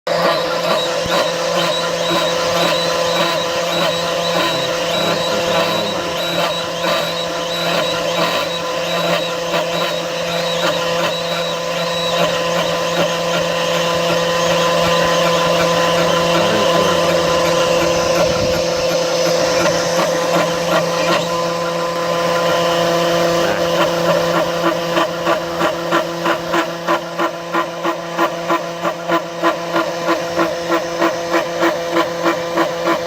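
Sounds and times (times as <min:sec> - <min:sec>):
milling machine cutting metal: 0:00.1 - 0:33.0.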